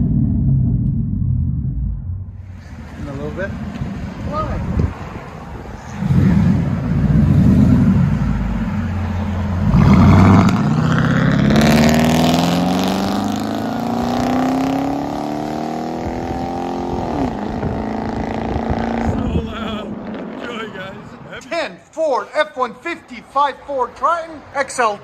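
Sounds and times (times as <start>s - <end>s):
car engine accelerating: 0.0s - 20.6s.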